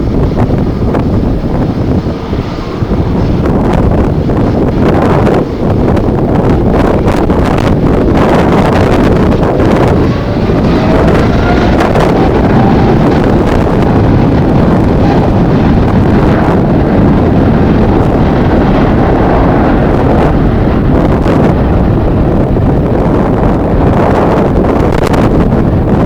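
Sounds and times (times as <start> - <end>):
strong wind buffeting microphone: 0.0 - 26.0.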